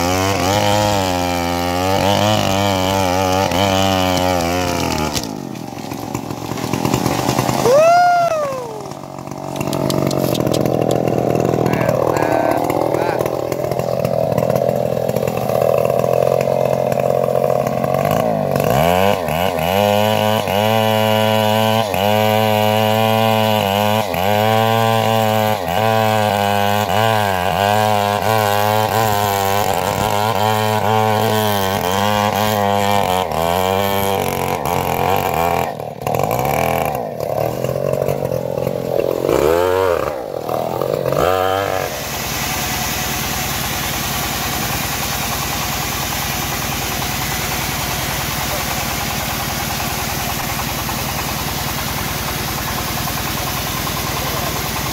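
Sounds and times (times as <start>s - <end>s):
chainsaw cutting log: 0.0s - 54.9s
chainsaw engine running: 0.0s - 54.9s.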